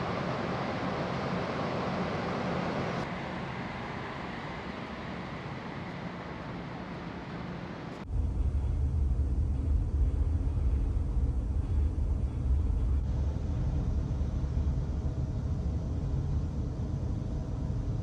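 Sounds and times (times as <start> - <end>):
faint tonal hum: 0.0 - 18.0.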